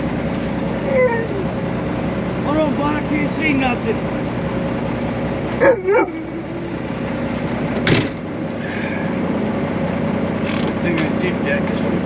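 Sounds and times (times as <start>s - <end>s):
truck cab engine and road drone: 0.0s - 12.0s.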